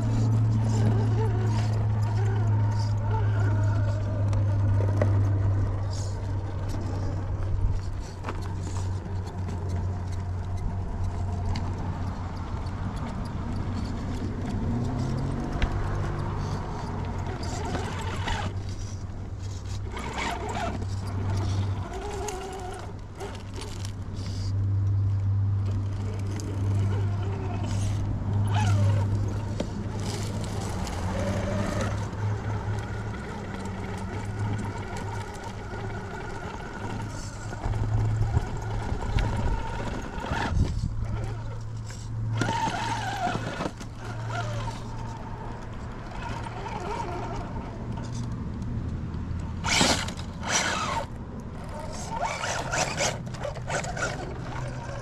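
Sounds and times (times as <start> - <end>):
low motor and gear hum: 0.0 - 55.0.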